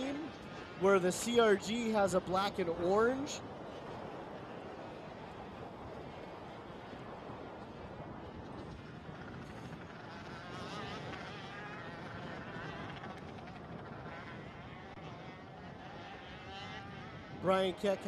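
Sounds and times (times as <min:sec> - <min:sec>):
distant kart engines buzzing: 0:00.0 - 0:18.0.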